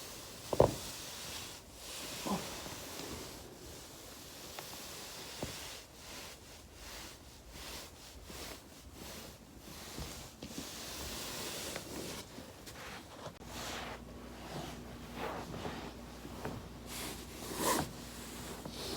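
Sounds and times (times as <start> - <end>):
fabric rustling on foam roller: 0.0 - 18.9.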